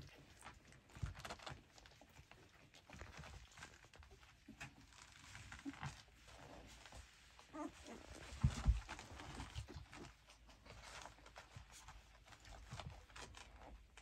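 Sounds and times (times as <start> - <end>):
puppies rustling on blanket: 0.0 - 14.0.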